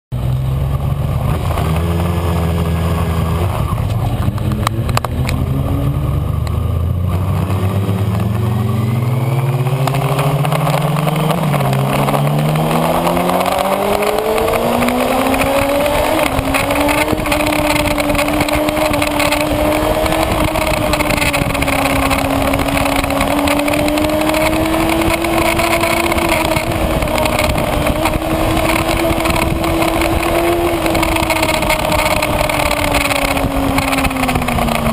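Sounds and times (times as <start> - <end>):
motorcycle engine revving: 0.1 - 34.9
wind noise: 1.2 - 34.9.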